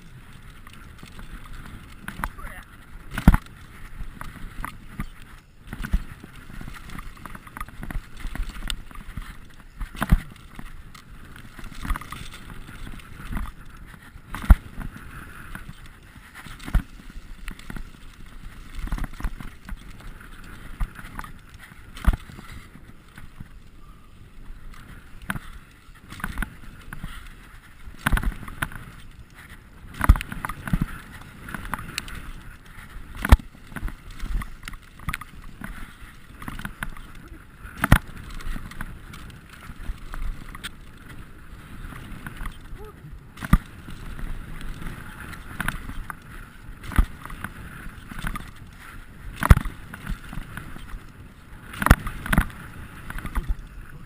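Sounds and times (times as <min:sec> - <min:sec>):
bike rattling over bumps: 0:00.0 - 0:54.0
bike tyres rolling on dirt: 0:00.0 - 0:54.0.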